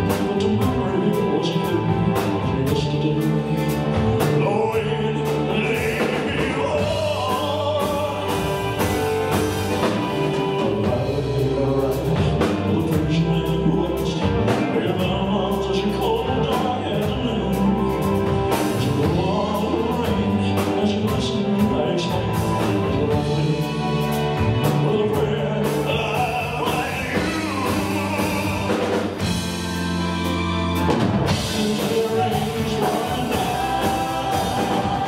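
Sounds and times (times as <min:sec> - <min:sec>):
man singing a ballad: 0:00.0 - 0:29.6, 0:31.3 - 0:35.0
live band playing: 0:00.0 - 0:35.0.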